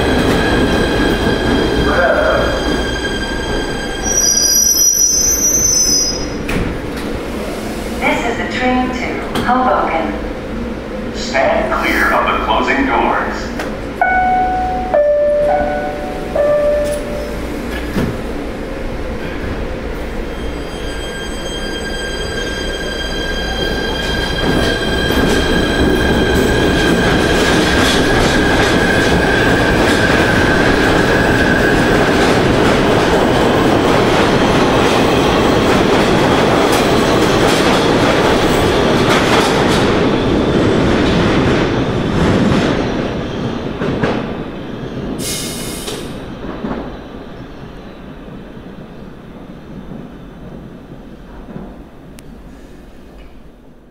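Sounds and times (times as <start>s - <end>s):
subway train wheels rumbling: 0.0s - 53.9s.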